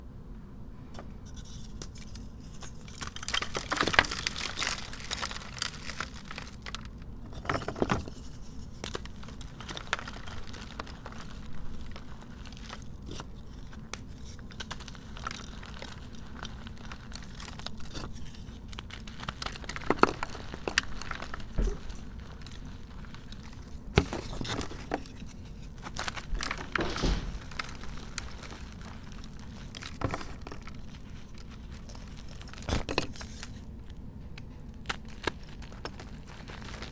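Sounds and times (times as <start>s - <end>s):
chalk being crushed and crumbled: 1.2s - 36.9s.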